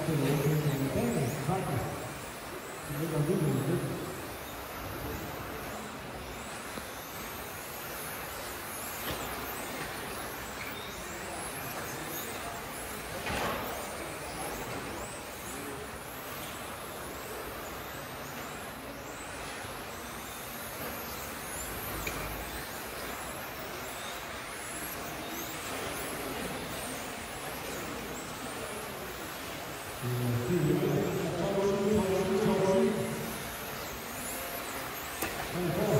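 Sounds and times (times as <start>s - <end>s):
rc car motors whining: 0.0s - 35.9s
steady noisy background: 0.0s - 35.9s.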